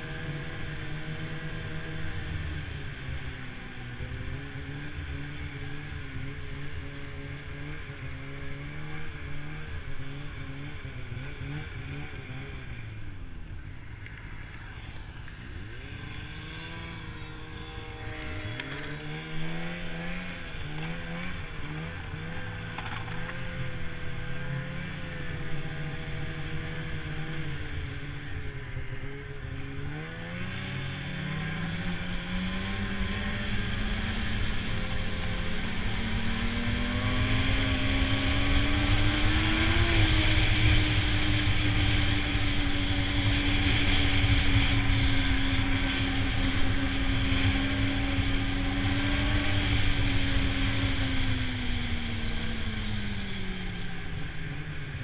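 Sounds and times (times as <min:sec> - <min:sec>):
snowmobile engine running: 0:00.0 - 0:55.0.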